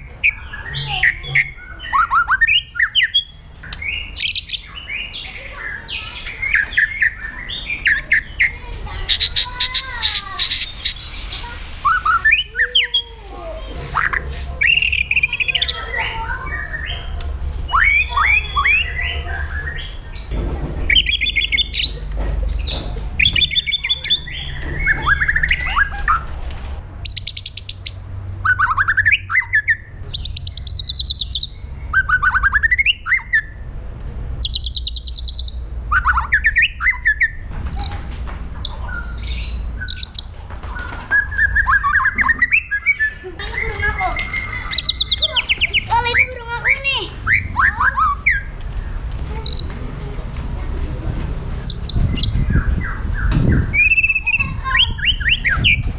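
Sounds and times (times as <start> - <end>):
bird singing: 0.0 - 13.2, 14.0 - 26.3, 27.0 - 33.6, 34.4 - 55.8.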